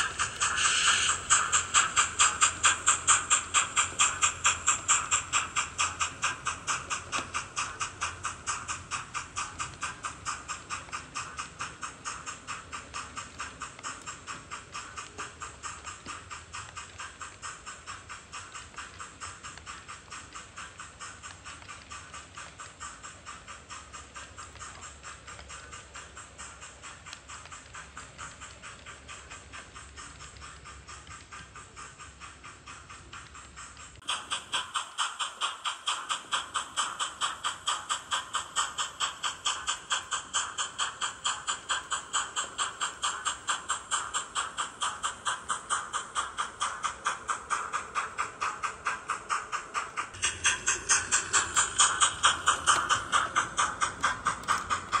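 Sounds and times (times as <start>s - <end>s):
steam exhaust chuffs from speaker: 0.0s - 55.0s.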